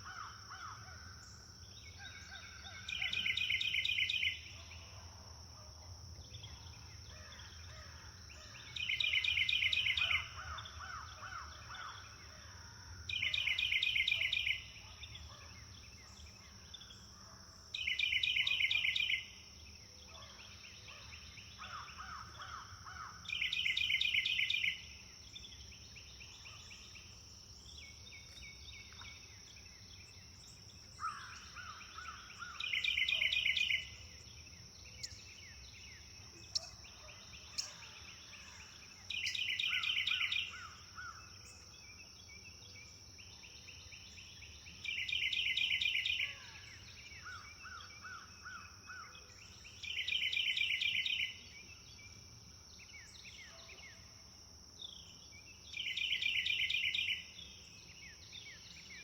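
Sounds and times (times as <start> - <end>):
other birds singing softly: 0.0 - 59.0.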